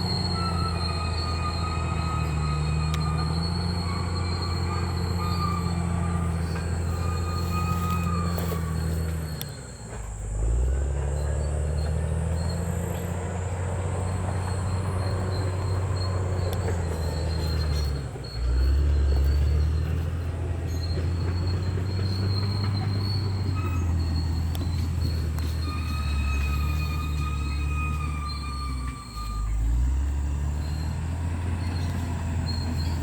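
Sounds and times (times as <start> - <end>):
diesel engine droning: 0.0 - 33.0
steel tracks squealing: 0.0 - 33.0.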